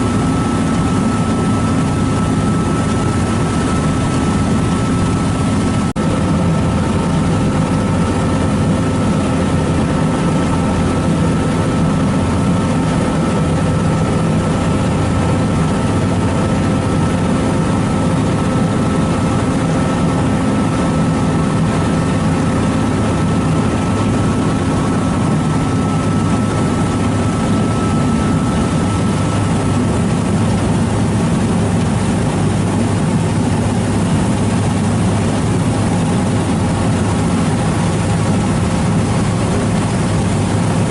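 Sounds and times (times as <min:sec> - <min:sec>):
ferry engine humming: 0:00.0 - 0:40.9
thin steady whine: 0:00.0 - 0:40.9.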